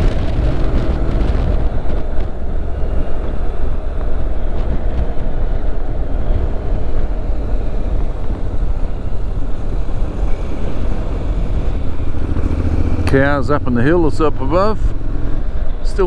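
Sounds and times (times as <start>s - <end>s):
motorcycle engine at speed: 0.0s - 16.0s
wind rush on microphone: 0.0s - 16.0s.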